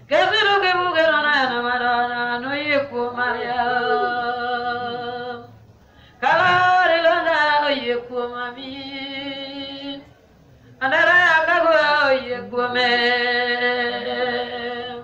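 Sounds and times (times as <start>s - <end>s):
person singing unaccompanied: 0.0s - 5.6s, 6.2s - 10.1s, 10.8s - 15.0s.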